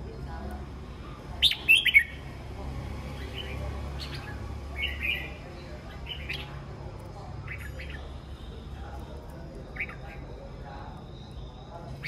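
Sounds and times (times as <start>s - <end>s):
bulbuls chirping: 0.0s - 12.0s.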